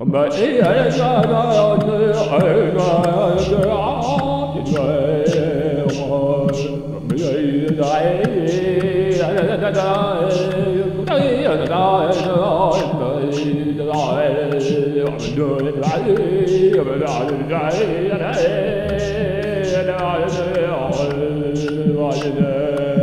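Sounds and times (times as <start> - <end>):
light ticking beat: 0.0 - 23.0
wavering sung melody: 0.0 - 23.0
low drone: 0.4 - 23.0.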